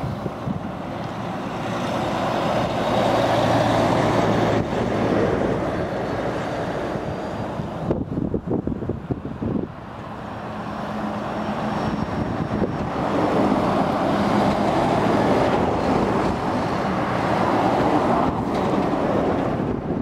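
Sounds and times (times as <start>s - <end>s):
lorries driving past: 0.0s - 20.0s.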